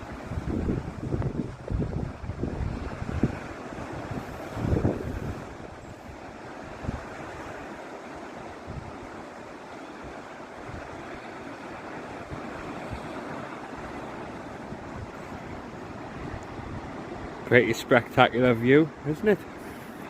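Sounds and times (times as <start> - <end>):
wind buffeting microphone: 0.0 - 19.8
waves washing onto rocky shore: 0.0 - 20.0.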